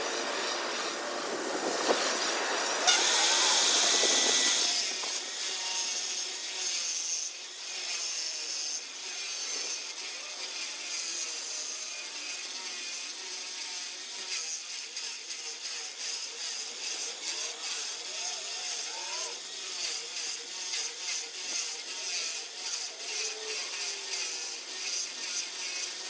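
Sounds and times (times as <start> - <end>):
grinder grinding stone: 0.0 - 26.0.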